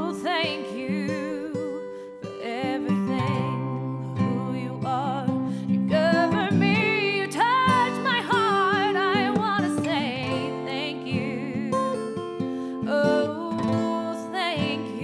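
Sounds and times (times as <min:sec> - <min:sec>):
acoustic guitar accompaniment: 0:00.0 - 0:15.0.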